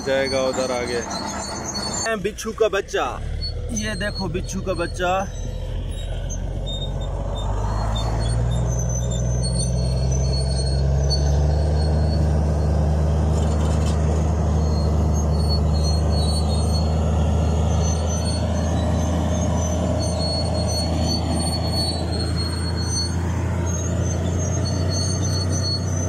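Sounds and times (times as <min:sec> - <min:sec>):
diesel engine running at low revs: 0:00.0 - 0:26.0.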